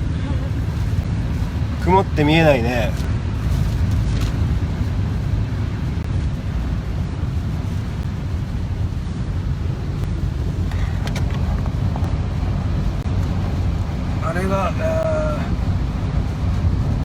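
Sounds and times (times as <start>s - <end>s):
road rumble: 0.0s - 17.0s
wind and rain rushing hiss: 0.0s - 17.0s.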